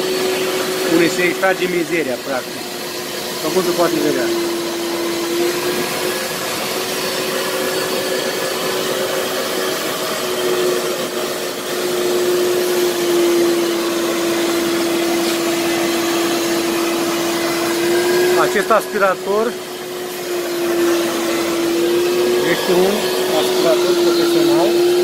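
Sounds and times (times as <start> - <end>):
suction motor running: 0.0 - 25.0.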